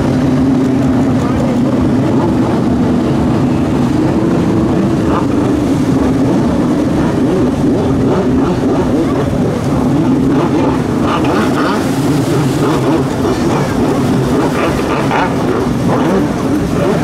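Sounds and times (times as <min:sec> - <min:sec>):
jet ski engines running: 0:00.0 - 0:17.0.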